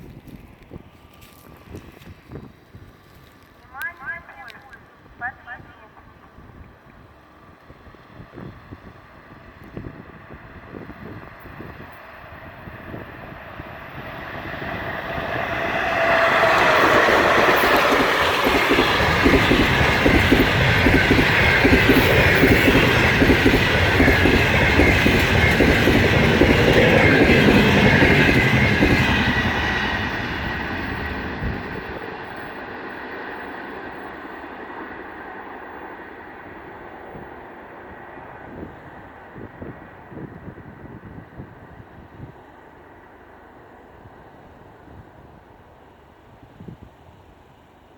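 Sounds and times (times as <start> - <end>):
train passing at speed: 0.0 - 47.9.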